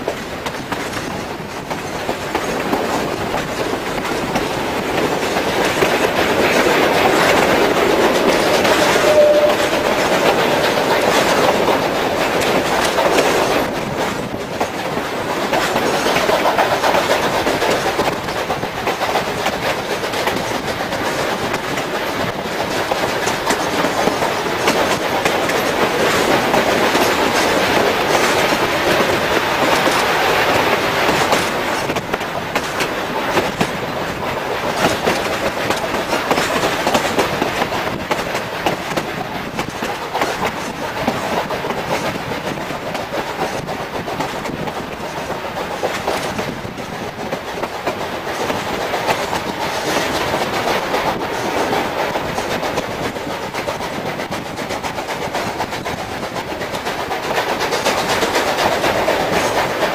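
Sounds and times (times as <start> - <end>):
train running on track: 0.0 - 59.9
wheels clicking over rail joints: 0.0 - 59.9.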